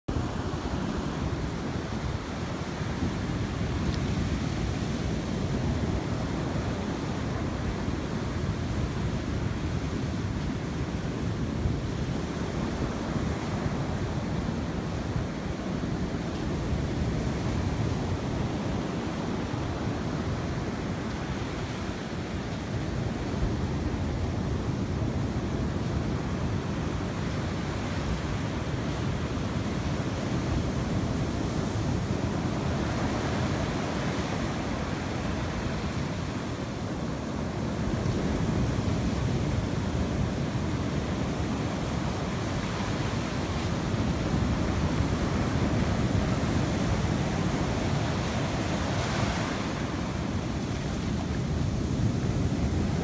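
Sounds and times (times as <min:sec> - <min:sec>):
sea surf washing in: 0:00.1 - 0:53.0
wind rumbling on microphone: 0:00.1 - 0:53.0.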